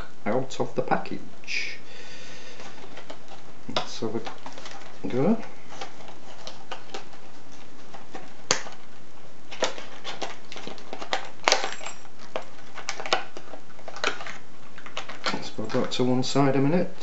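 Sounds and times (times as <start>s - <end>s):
plastic blister packaging crackling: 2.2s - 17.0s.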